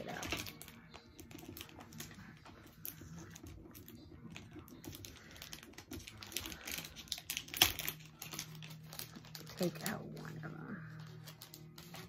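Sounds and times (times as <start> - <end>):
packaging clicks and rustles: 0.0 - 12.0.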